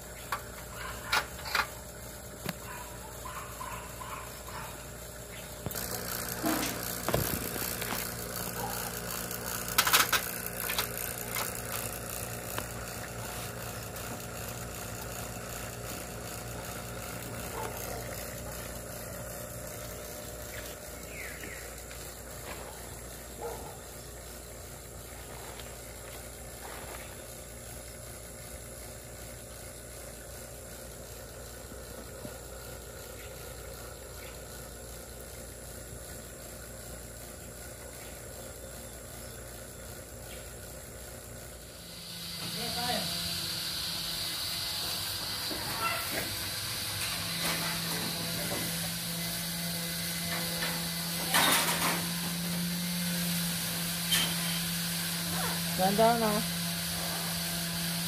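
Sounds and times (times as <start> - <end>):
motor humming: 0.0 - 58.0.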